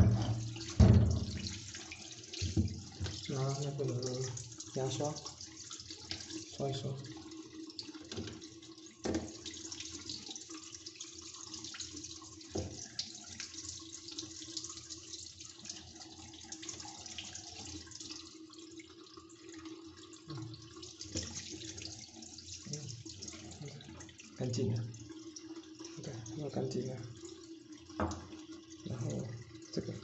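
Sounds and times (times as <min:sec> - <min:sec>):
tap water running into sink: 0:00.0 - 0:30.0.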